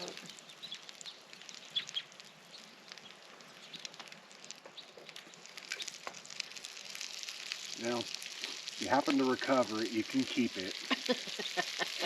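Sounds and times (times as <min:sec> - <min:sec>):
food sizzling over campfire: 0:00.0 - 0:12.0.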